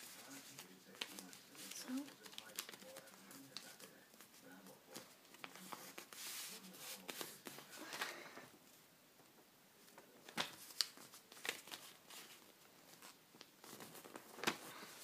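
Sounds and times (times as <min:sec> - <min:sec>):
paper being folded and creased: 0:00.0 - 0:08.1, 0:10.3 - 0:15.0
sharp paper crinkles: 0:00.0 - 0:08.1, 0:10.2 - 0:15.0.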